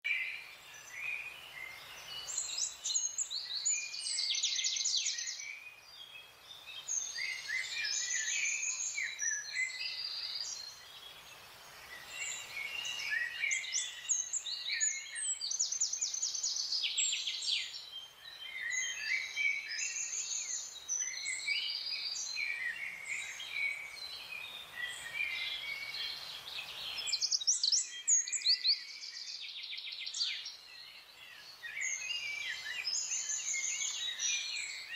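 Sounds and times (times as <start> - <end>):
songbirds chirping and trilling: 0.0 - 34.9
faint steady hiss: 0.1 - 34.9.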